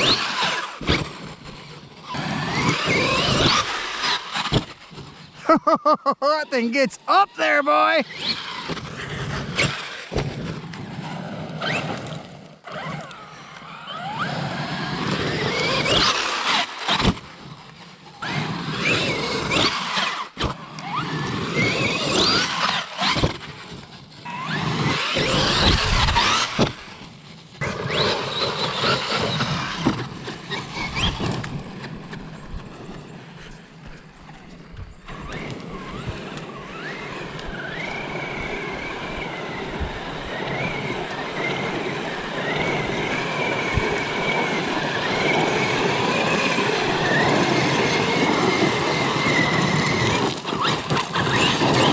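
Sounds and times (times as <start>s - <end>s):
rc truck motor and gear whine: 0.0s - 5.8s, 7.0s - 51.9s.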